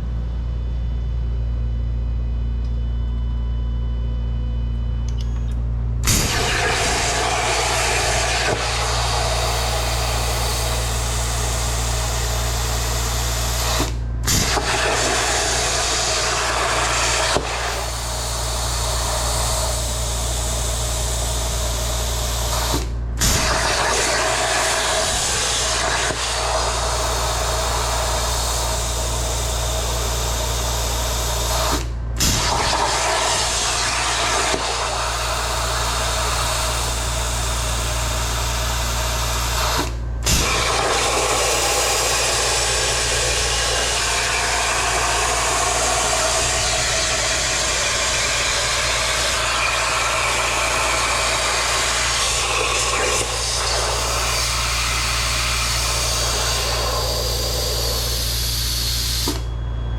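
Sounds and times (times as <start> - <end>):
steady low hum: 0.0 - 59.9
plasma cutter arc hissing: 6.0 - 59.5.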